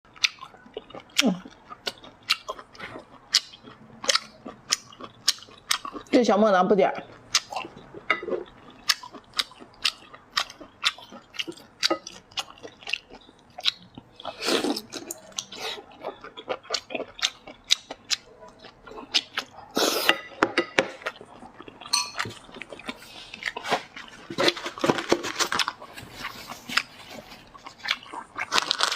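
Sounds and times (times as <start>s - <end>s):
chewing and biting: 0.1s - 6.1s, 7.0s - 19.8s, 20.9s - 28.9s.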